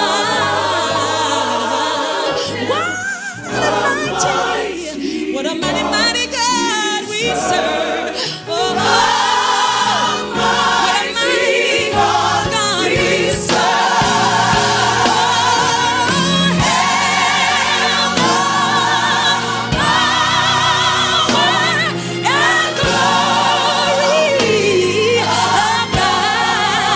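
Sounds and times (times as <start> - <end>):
gospel choir singing with vibrato: 0.0 - 26.9
instrumental accompaniment: 0.0 - 26.9.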